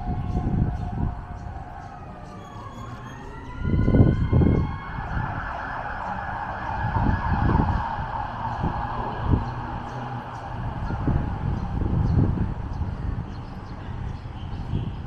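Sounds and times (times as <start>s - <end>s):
distant siren wailing: 0.0s - 13.3s.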